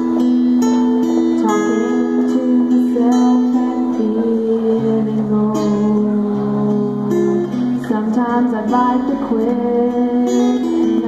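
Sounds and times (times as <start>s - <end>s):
strummed acoustic guitar: 0.0s - 11.0s
girl singing: 1.1s - 11.0s.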